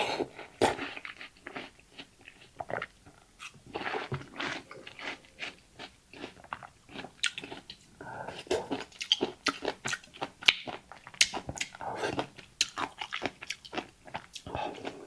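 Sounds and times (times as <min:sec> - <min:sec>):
chewing and slurping: 0:00.0 - 0:15.0.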